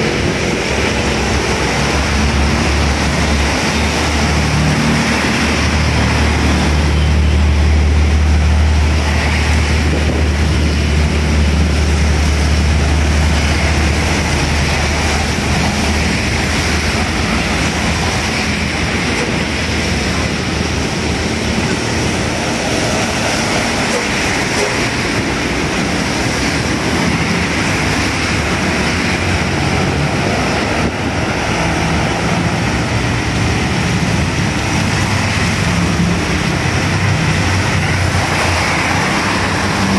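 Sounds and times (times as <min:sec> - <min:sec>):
truck engine drone: 0:00.0 - 0:39.9
tyres swishing on wet road: 0:00.0 - 0:39.9
vehicles passing: 0:00.0 - 0:39.9.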